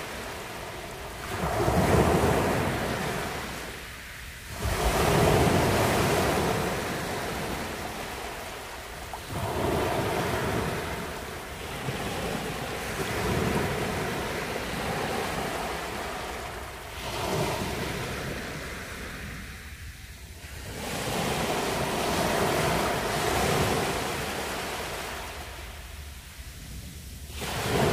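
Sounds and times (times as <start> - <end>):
sea waves breaking on sand: 0.0 - 27.9.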